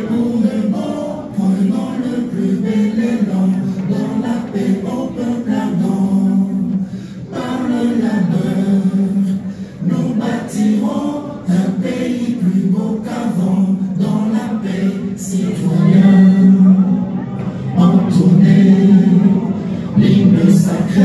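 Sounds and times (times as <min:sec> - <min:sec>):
crowd singing unaccompanied: 0:00.0 - 0:21.0.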